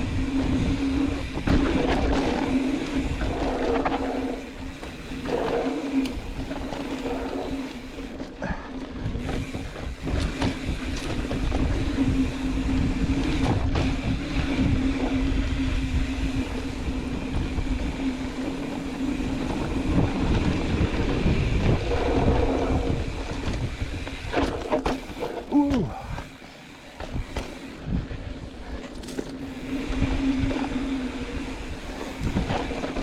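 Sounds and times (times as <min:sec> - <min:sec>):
mountain bike rattling over rough ground: 0:00.0 - 0:33.0.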